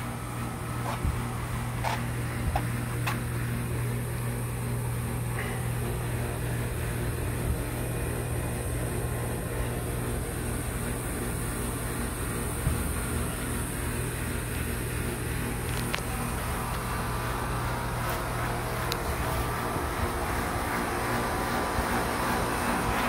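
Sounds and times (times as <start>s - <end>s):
steady low machine hum: 0.0s - 23.0s.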